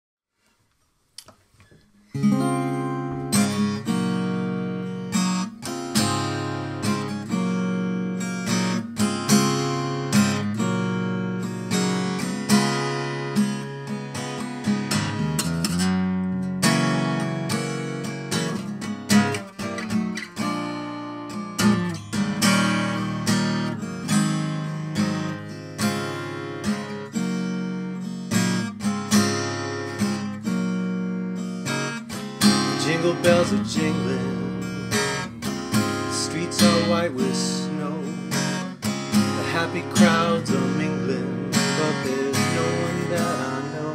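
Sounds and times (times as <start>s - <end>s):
acoustic guitar strumming chords: 2.0s - 43.9s.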